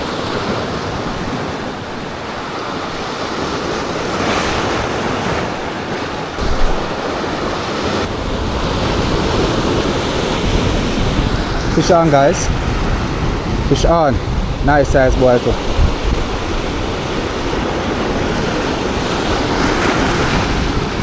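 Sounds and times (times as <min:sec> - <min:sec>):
ocean surf breaking: 0:00.0 - 0:21.0
wind buffeting microphone: 0:02.7 - 0:21.0.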